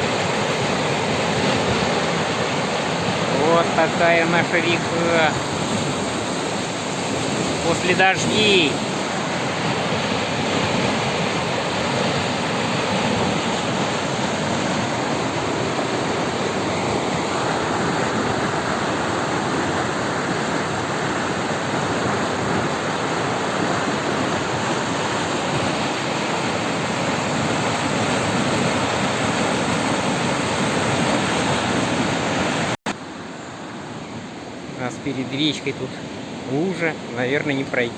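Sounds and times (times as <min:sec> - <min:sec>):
river current rushing: 0:00.0 - 0:37.9.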